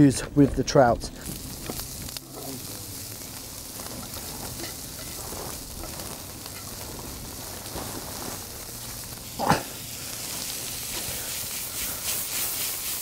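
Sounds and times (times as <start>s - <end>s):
vegetables sizzling in a frying pan: 1.0s - 13.0s.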